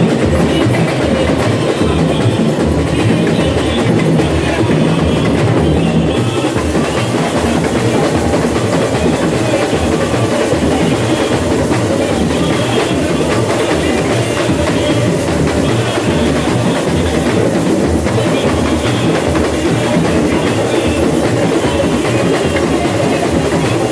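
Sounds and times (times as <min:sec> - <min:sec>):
samba drum section playing: 0:00.0 - 0:23.9.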